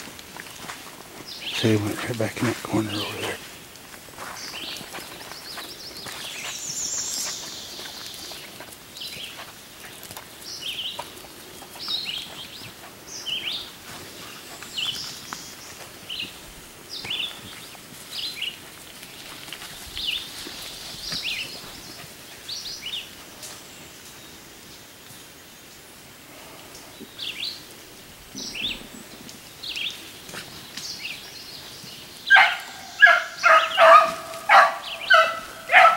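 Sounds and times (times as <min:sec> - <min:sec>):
songbird trill: 0:00.0 - 0:25.7, 0:26.6 - 0:27.7, 0:28.3 - 0:35.9.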